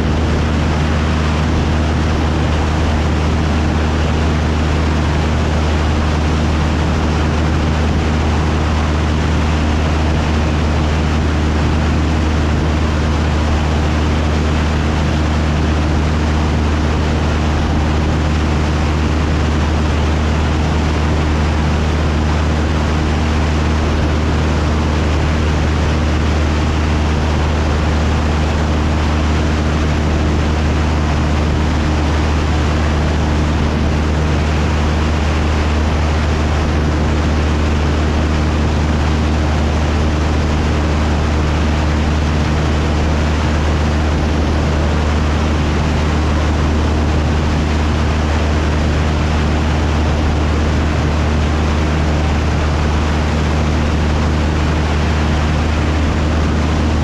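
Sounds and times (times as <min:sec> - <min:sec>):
airflow rush: 0:00.0 - 0:57.0
propeller plane engine drone: 0:00.0 - 0:57.0.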